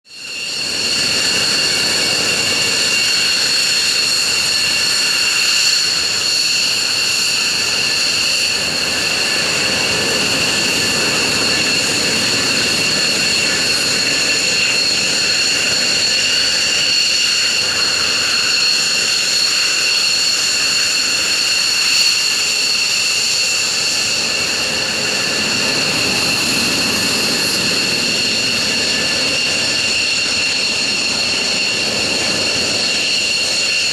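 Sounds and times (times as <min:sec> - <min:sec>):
jet engines idling: 0:00.2 - 0:33.9.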